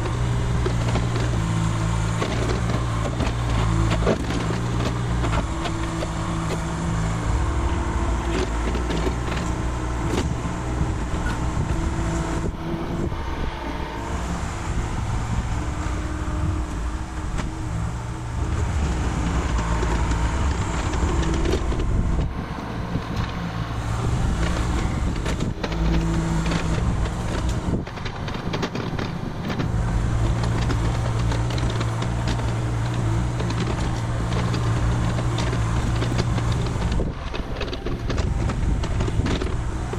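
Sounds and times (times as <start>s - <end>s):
rough mechanical clatter: 0.0s - 13.4s, 14.4s - 39.9s
excavator diesel engine: 0.0s - 39.9s.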